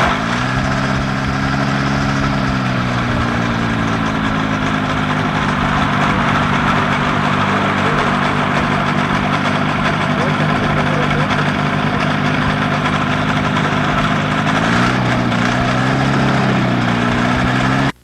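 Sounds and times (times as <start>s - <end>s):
gyrocopter engine idling: 0.0s - 18.0s.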